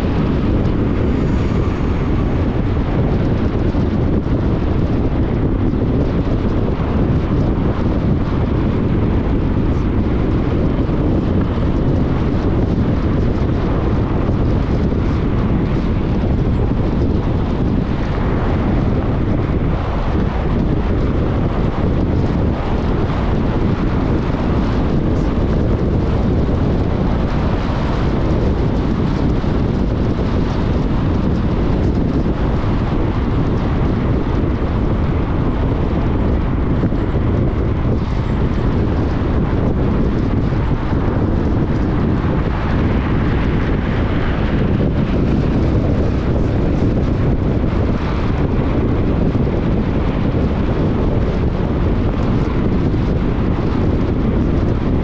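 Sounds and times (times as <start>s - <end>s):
tyres humming on road: 0.0s - 55.0s
wind rumble on microphone: 0.0s - 55.0s.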